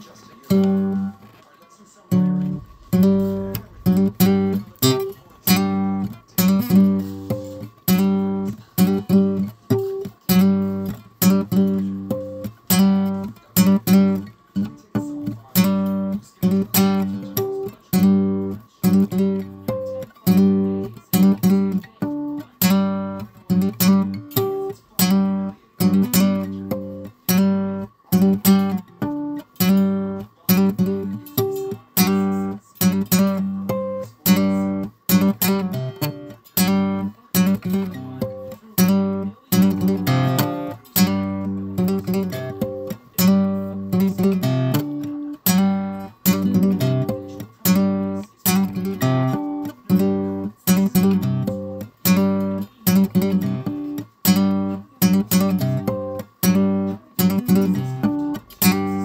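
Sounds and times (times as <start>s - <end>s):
guitar chords strummed: 0.0s - 59.0s.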